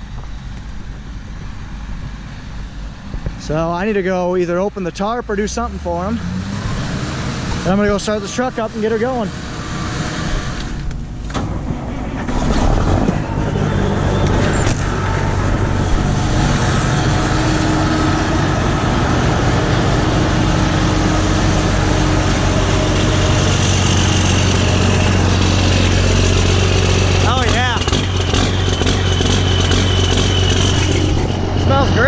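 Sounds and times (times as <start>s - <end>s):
diesel truck engine starting and idling: 0.0s - 32.0s.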